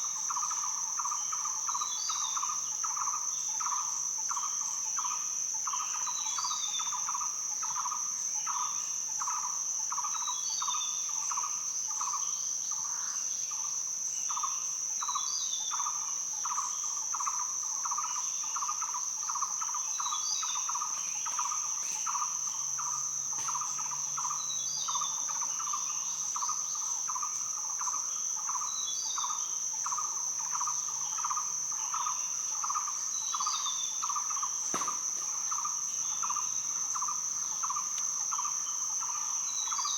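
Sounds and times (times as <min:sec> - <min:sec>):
crickets trilling: 0:00.0 - 0:39.9
rhythmic pulsing insect chorus: 0:00.0 - 0:39.9.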